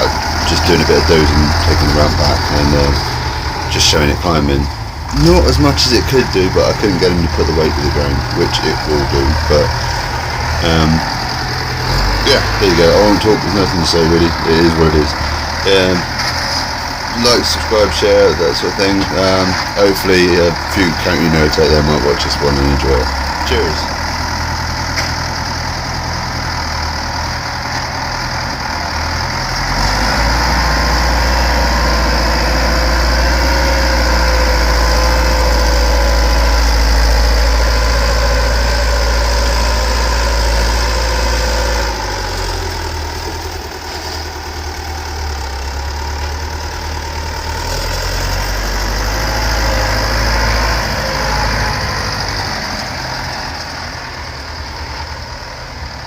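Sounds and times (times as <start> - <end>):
tractor diesel engine working: 0.0 - 56.0.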